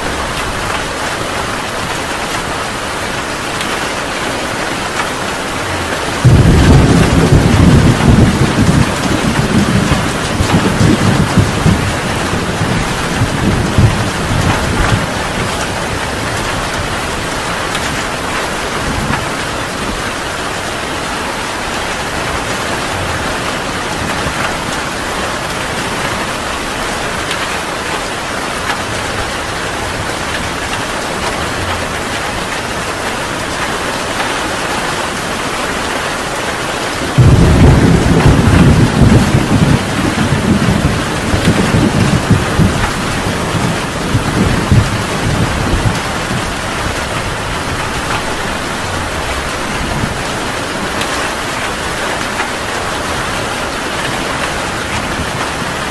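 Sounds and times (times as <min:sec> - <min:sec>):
thunder clap rumbling: 0:00.0 - 0:20.6, 0:21.3 - 0:34.2, 0:36.9 - 0:55.9
heavy rain: 0:00.0 - 0:55.9.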